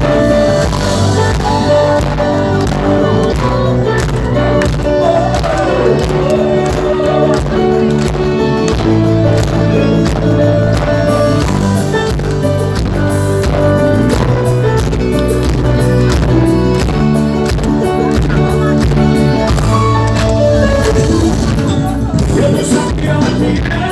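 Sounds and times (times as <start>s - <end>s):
steady drum beat: 0.0s - 23.9s
worship band music: 0.0s - 23.9s.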